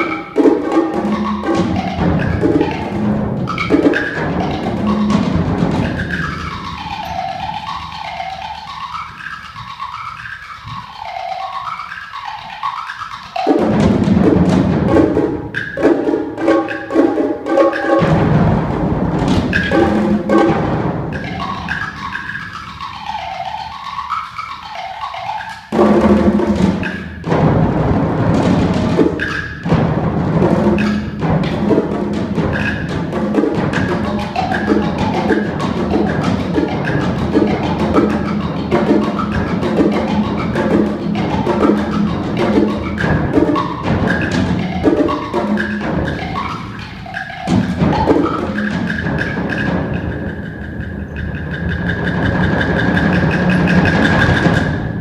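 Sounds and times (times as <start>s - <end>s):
wood blocks: 0.0s - 18.6s, 19.2s - 55.0s
fast drum strokes: 0.0s - 55.0s.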